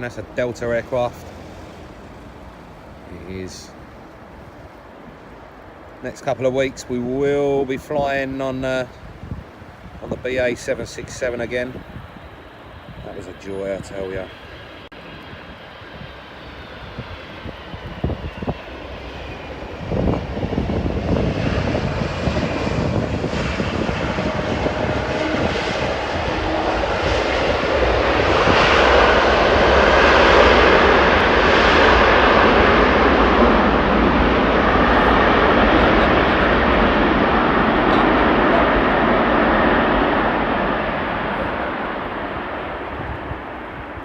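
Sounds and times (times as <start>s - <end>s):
jet airliner engines roaring: 0.0s - 44.0s.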